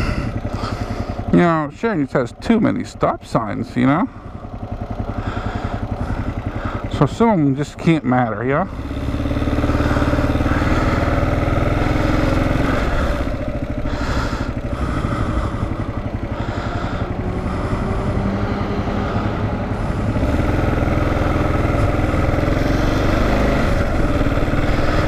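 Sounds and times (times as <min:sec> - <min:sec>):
motorcycle engine riding: 0:00.0 - 0:25.0.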